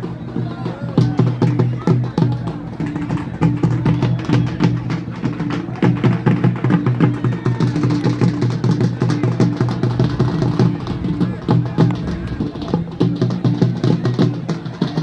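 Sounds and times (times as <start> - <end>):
fast even drumming: 0.0 - 15.0.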